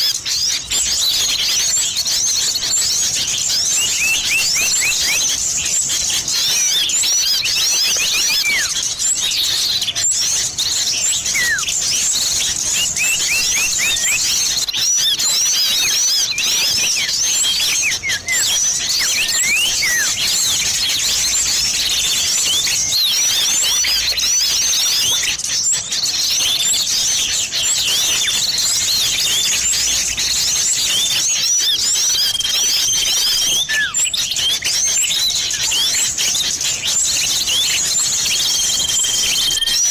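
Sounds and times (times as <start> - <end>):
held bird whistle: 0.0 - 25.5, 27.2 - 39.9
songbird calls and chirps: 0.0 - 39.9.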